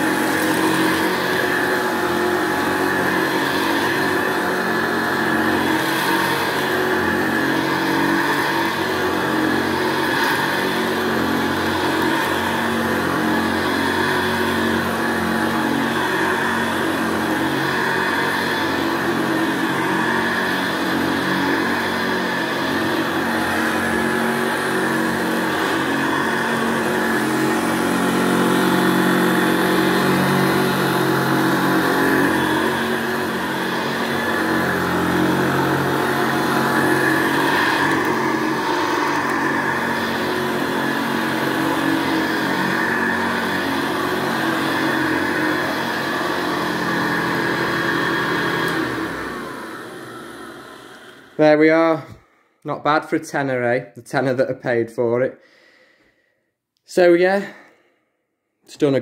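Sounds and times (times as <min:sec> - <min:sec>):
vacuum cleaner running: 0:00.0 - 0:52.2.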